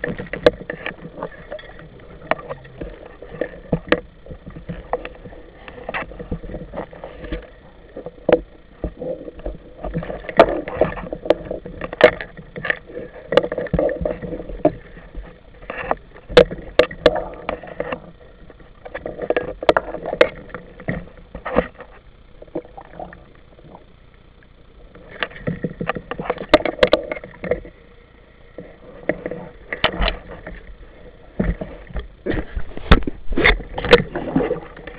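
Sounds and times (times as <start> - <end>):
muffled water rushing underwater: 0.0 - 34.9.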